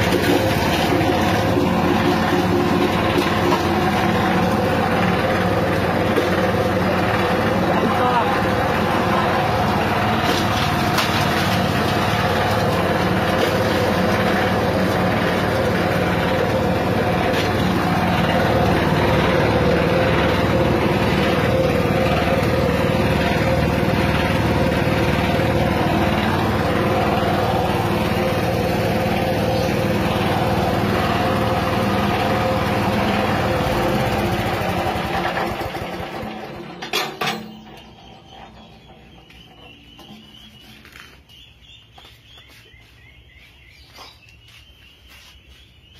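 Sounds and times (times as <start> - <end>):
small engine running grinding machine: 0.0 - 44.6.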